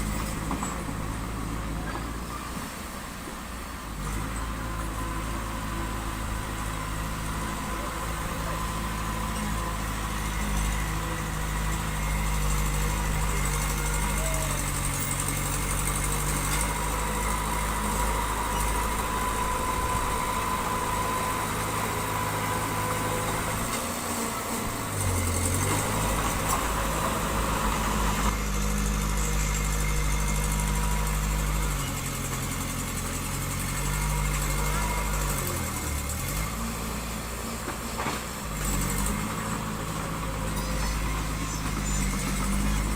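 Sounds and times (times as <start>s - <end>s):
heavy machinery diesel engine running: 0.0s - 42.9s.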